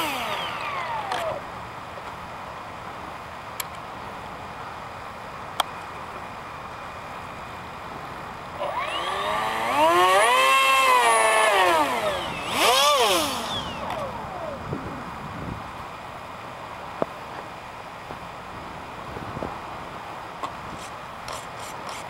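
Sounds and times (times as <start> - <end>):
model jet fans whining: 0.0 - 22.0.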